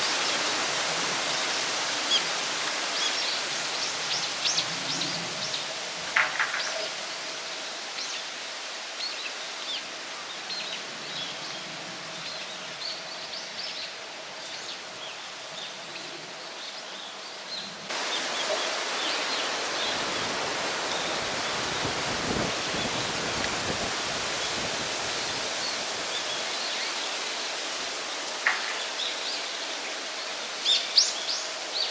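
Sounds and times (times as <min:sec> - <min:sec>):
steady hiss: 0:00.0 - 0:15.1, 0:17.8 - 0:31.9.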